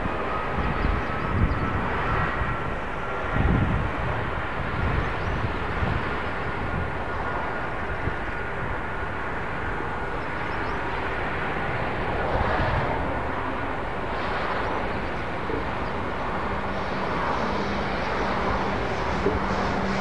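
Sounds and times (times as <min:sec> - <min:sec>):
jet engines running at low power: 0:00.0 - 0:20.0.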